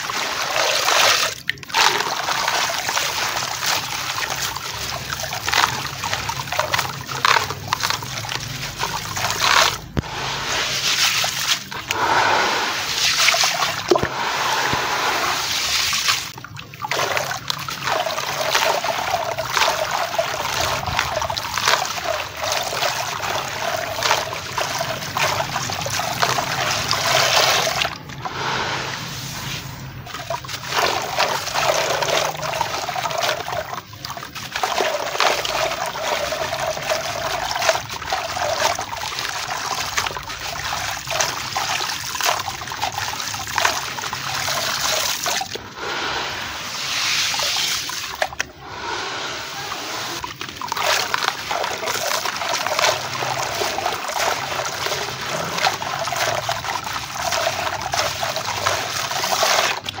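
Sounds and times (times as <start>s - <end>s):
gravel trickling into water: 0.0s - 60.0s.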